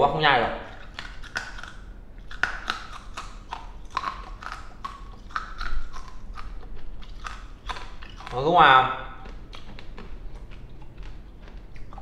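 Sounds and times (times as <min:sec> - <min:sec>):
person chewing hard candy: 0:00.6 - 0:12.0.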